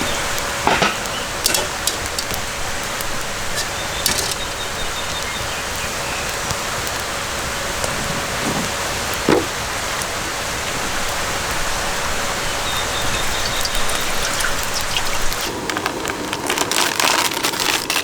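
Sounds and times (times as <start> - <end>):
steady water noise: 0.0 - 17.6.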